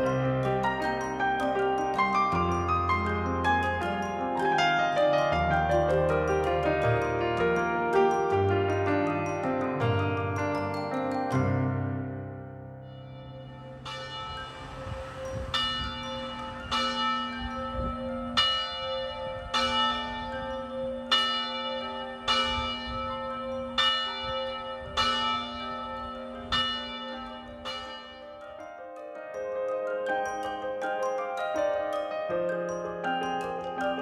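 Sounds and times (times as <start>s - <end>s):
church bell ringing: 0.0s - 29.3s.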